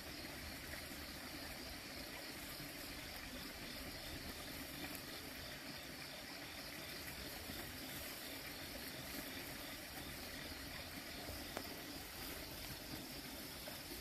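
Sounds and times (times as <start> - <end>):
faint background hiss: 0.0 - 14.0.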